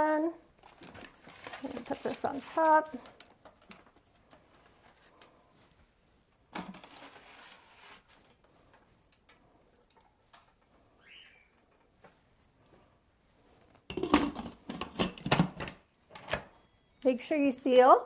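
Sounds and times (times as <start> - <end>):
rustling: 0.5 - 15.0.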